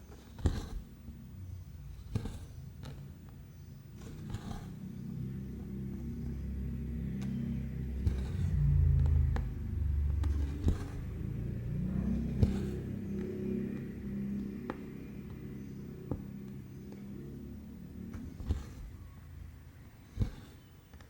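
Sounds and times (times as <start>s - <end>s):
motor vehicle engine rumbling: 0.4s - 20.7s.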